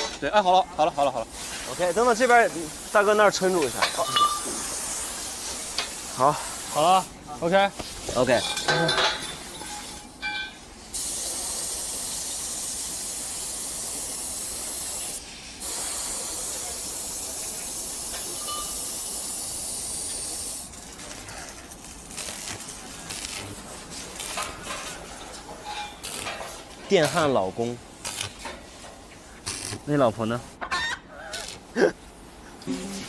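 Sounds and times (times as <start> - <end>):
spray paint hissing: 1.3 - 7.1, 10.9 - 30.6, 31.3 - 33.0.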